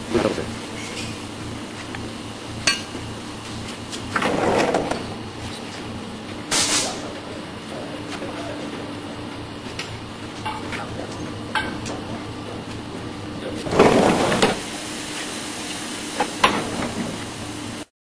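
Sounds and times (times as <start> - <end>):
grinding machine humming: 0.0 - 17.9.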